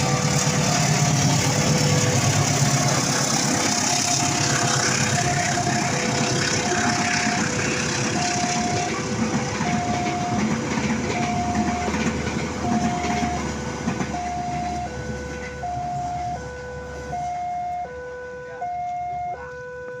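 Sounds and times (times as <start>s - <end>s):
level crossing two-tone alarm: 0.0s - 20.0s
passing train rumble: 0.0s - 20.0s.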